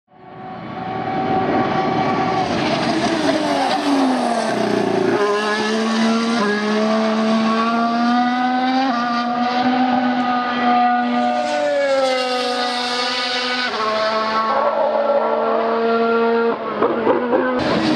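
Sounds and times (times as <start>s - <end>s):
racing car engine revving: 0.8s - 17.9s.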